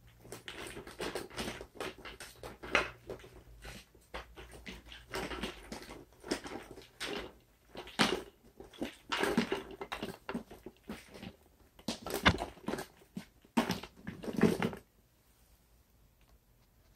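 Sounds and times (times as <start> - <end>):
puppet feet tapping on floor: 0.0 - 14.9.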